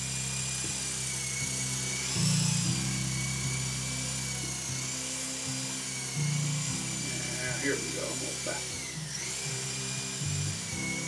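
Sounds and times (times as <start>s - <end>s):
toy helicopter rotors whirring: 0.0s - 11.0s.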